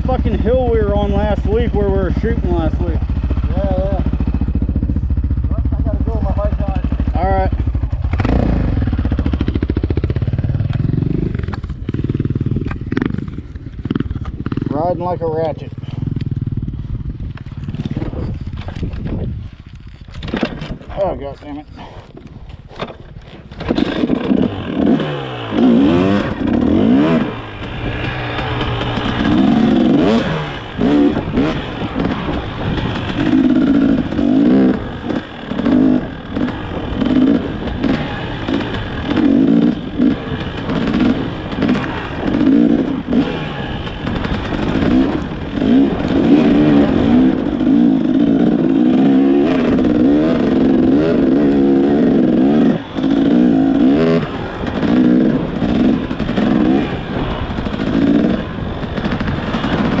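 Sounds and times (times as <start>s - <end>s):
dirt bike engine revving: 0.0s - 18.6s, 23.5s - 60.0s.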